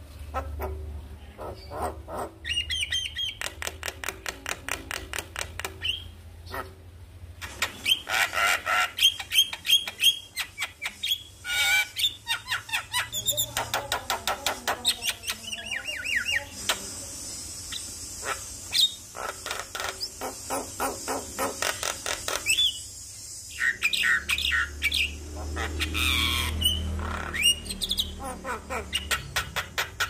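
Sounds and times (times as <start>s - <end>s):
bird singing chattering song: 1.4s - 6.7s, 7.4s - 30.0s.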